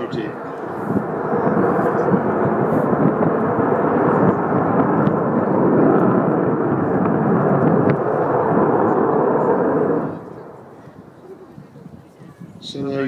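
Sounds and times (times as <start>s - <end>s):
jet aircraft flying overhead: 0.0s - 13.0s.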